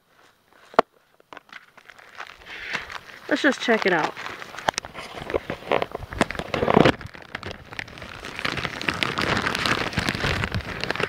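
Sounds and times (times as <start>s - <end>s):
plastic bags crinkling: 1.4s - 11.0s.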